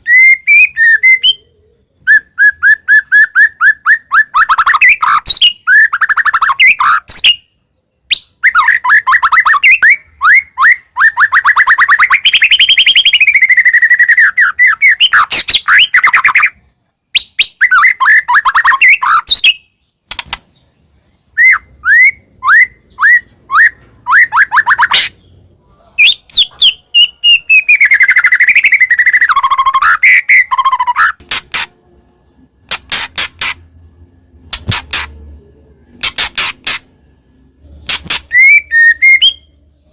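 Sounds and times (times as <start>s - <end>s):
bird singing chirps and whistles: 0.0s - 19.9s, 21.3s - 39.9s.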